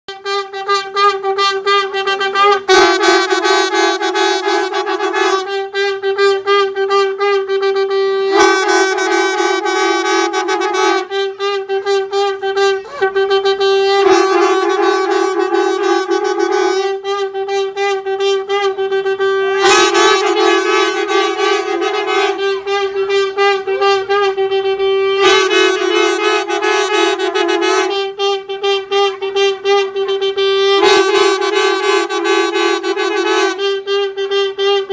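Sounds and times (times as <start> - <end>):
conch shells blown: 0.1 - 34.9.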